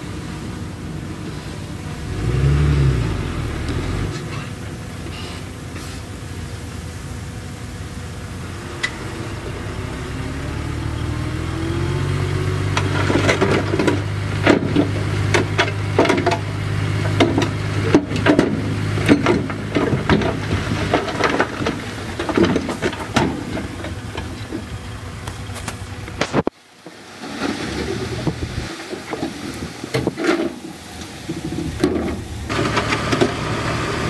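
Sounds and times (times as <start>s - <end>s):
bulldozer diesel engine: 0.0s - 26.5s, 27.1s - 34.0s.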